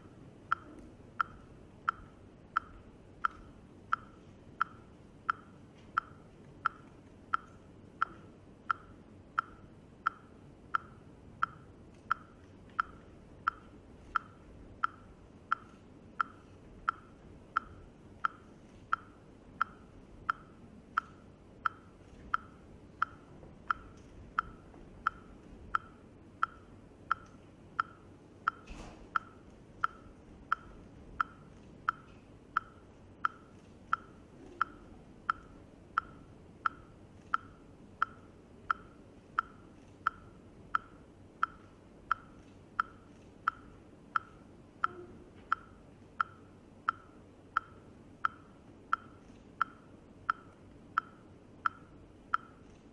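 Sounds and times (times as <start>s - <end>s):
faint room noise: 0.0s - 52.9s
steady ticking: 0.0s - 52.9s.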